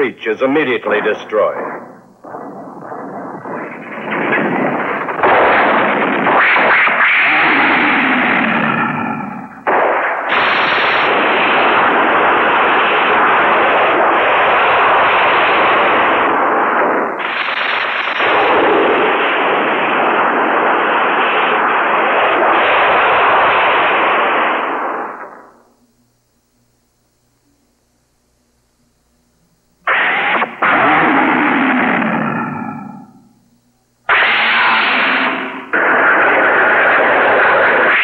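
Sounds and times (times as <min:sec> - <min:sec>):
explosion and rumbling destruction: 0:01.0 - 0:25.4, 0:29.9 - 0:33.3, 0:34.1 - 0:38.0.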